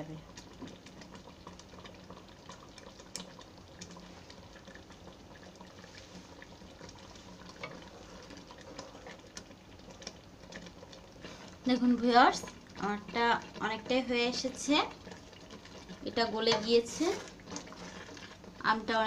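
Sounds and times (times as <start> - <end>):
syrup bubbling in a pan: 0.0 - 19.0
wooden spatula stirring syrup: 0.0 - 19.0.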